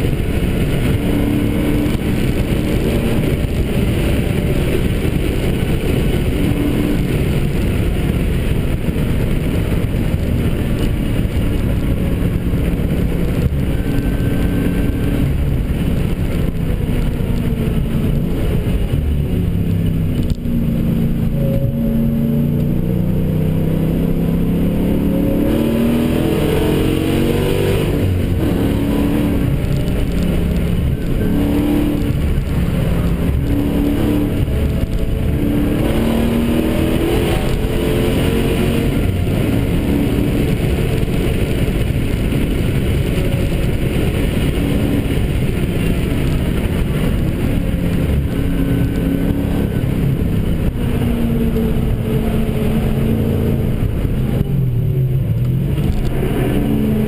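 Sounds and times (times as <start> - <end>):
car engine from inside cabin: 0.0 - 57.0
road and wind roar: 0.0 - 57.0.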